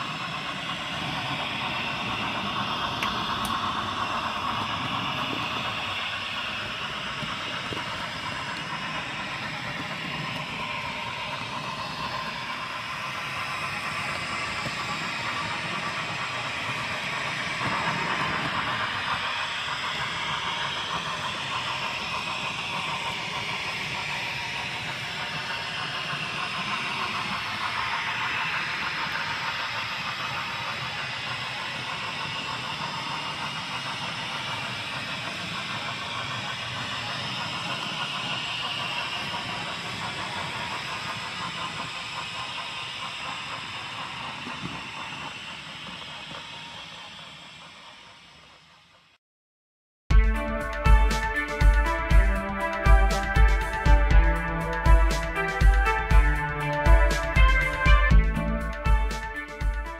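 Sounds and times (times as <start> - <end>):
motor whine: 0.0 - 48.9, 50.2 - 59.9
model train running on track: 0.0 - 49.2, 50.1 - 59.9.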